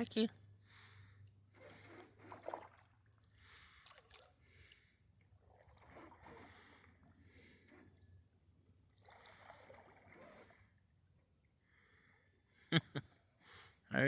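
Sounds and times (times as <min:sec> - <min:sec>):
water lapping against canoe: 0:00.6 - 0:12.0.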